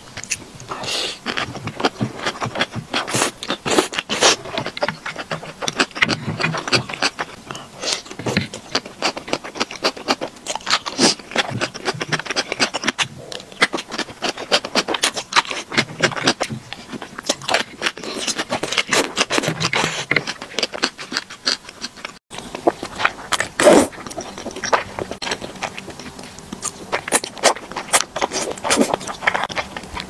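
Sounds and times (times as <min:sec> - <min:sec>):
slurping and chewing: 0:00.1 - 0:30.0.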